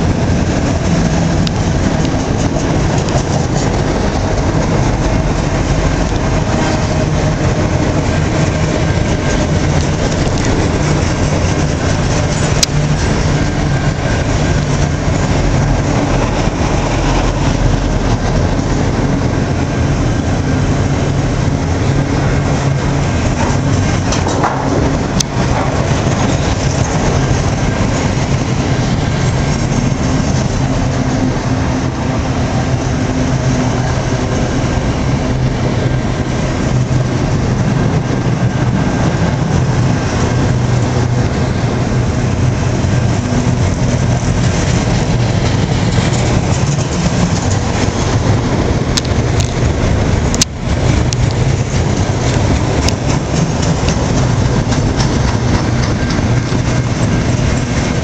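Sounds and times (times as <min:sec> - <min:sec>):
freight car wheels on rails: 0:00.0 - 0:31.5, 0:36.1 - 0:58.0.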